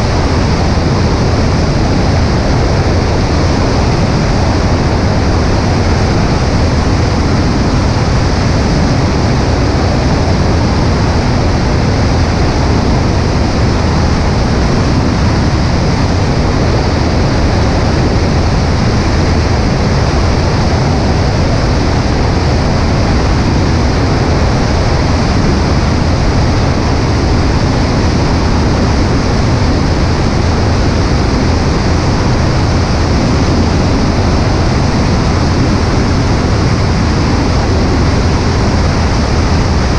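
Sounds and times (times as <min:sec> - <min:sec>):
light aircraft engine drone: 0:00.0 - 0:39.9
rush of air: 0:00.0 - 0:39.9.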